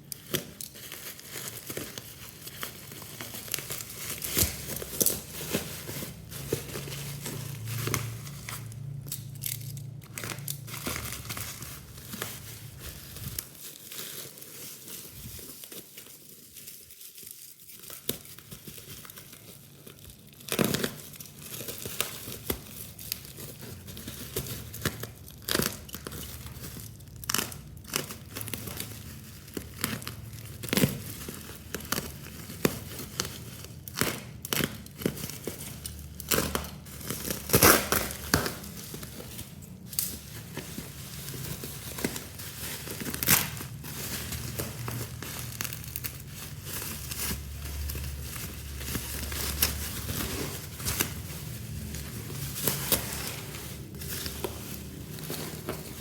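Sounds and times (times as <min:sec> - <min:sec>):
packaging rustling and snapping: 0:00.0 - 0:56.0.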